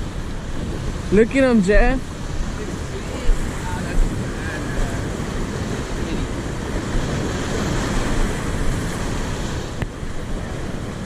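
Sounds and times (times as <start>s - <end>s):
ocean surf: 0.0s - 11.0s
wind on microphone: 0.0s - 11.0s.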